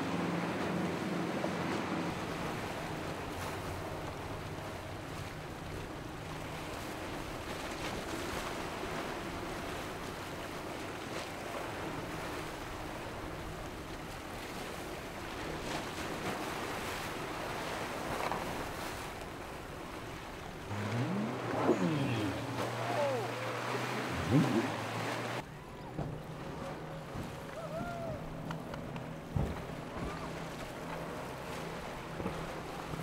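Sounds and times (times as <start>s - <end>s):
boat engines running: 0.0s - 33.0s
waves breaking: 0.0s - 33.0s.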